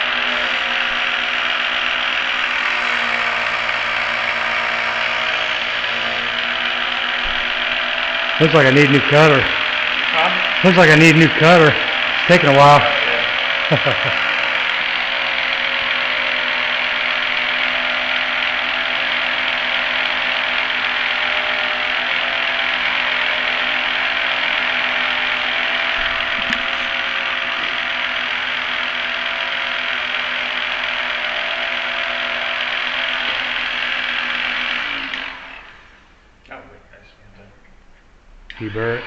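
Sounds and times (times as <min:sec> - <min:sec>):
key cutting machine grinding: 0:00.0 - 0:36.0.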